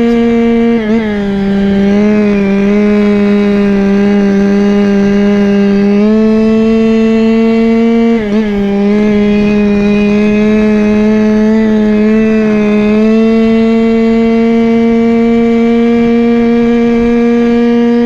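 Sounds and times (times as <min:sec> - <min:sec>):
scooter engine at high revs: 0:00.0 - 0:18.0.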